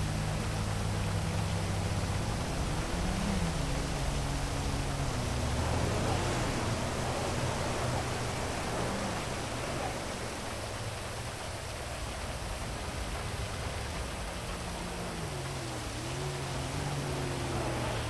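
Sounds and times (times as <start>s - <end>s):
heavy rain falling: 0.0s - 18.0s
low hum of traffic: 0.0s - 18.0s
vehicles passing: 0.0s - 18.0s.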